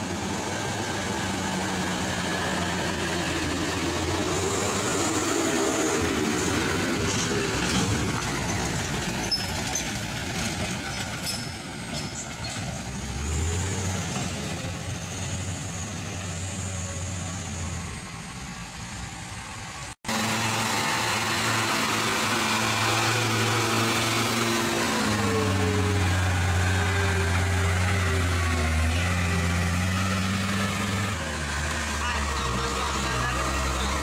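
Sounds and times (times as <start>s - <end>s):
diesel truck engines running: 0.0s - 34.0s.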